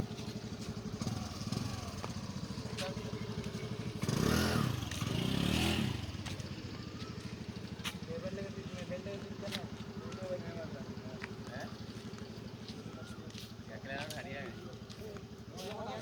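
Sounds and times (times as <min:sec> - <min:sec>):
small vehicle engine revving: 0:00.0 - 0:13.0.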